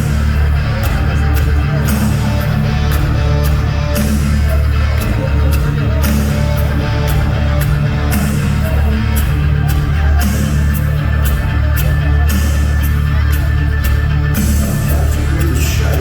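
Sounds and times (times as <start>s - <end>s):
heavy bass line: 0.0s - 16.0s
rock band playing live: 0.0s - 16.0s.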